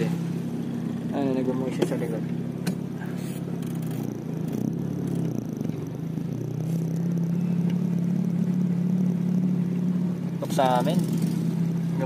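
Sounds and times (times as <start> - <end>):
car engine: 0.0 - 12.0
road noise: 0.0 - 12.0.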